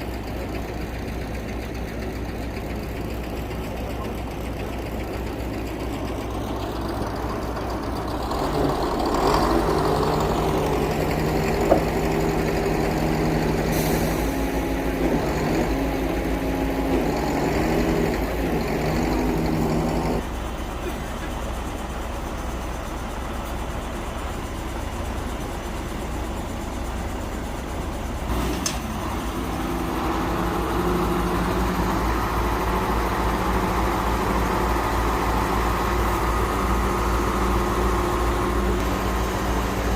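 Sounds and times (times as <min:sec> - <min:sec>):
hydraulics humming and whining: 0:00.0 - 0:39.9
truck engine running: 0:00.0 - 0:39.9.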